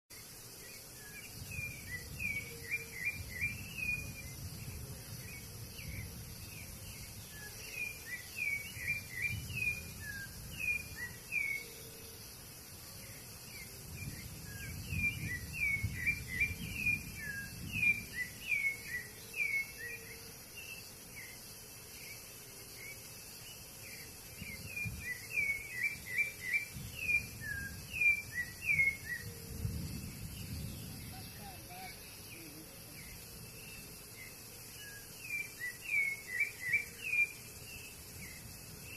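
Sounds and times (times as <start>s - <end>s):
high-pitched insect chorus: 0.1s - 38.9s.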